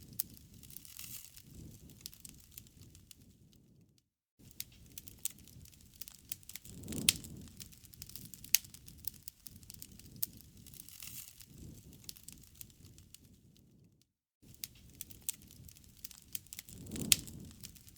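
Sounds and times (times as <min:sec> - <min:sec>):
campfire crackling and popping: 0:00.0 - 0:03.7, 0:04.4 - 0:13.7, 0:14.5 - 0:17.9
low rumble of flame: 0:00.0 - 0:17.9.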